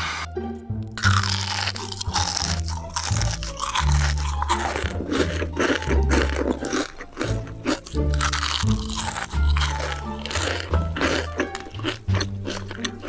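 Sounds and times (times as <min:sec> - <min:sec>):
background music with bass: 0:00.0 - 0:13.0
crunching fried chicken: 0:00.9 - 0:13.0.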